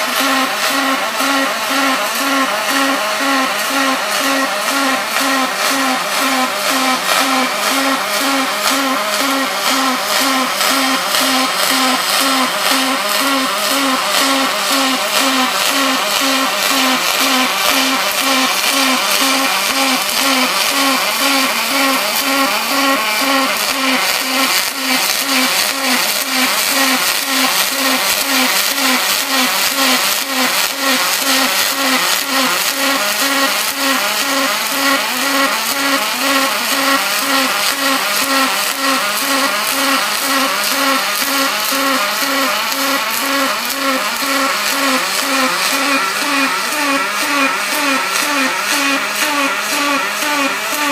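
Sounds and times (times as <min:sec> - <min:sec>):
welding arc buzzing hiss: 0:00.0 - 0:50.9.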